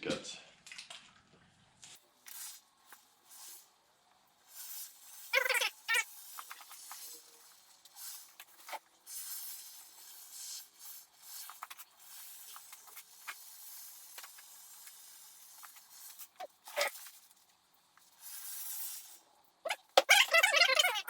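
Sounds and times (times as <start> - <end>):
aerosol spray can hissing: 2.2 - 3.8, 4.4 - 20.4.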